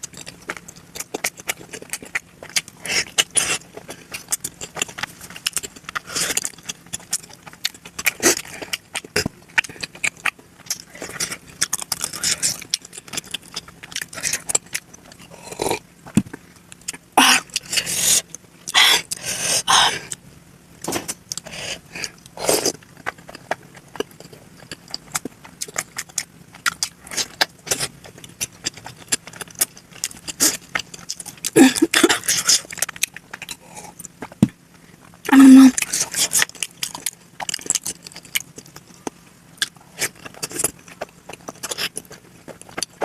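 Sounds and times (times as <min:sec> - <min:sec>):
wet chewing clicks: 0:00.0 - 0:19.2, 0:21.3 - 0:43.0.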